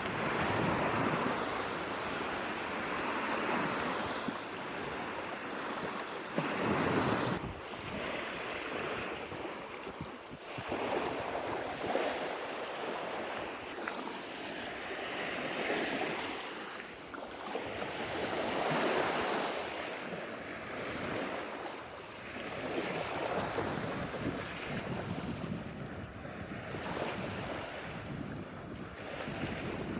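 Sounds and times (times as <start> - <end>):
waves washing onto sandy shore: 0.0 - 29.9
wind: 0.0 - 29.9.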